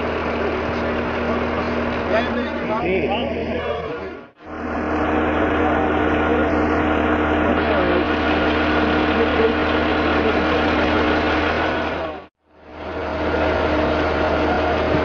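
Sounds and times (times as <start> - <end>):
engine running steadily: 0.0 - 15.0
low hum: 0.0 - 15.0.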